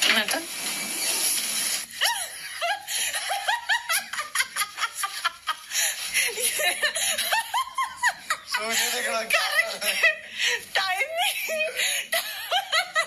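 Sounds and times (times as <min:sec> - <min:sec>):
people laughing and giggling: 0:02.0 - 0:13.0.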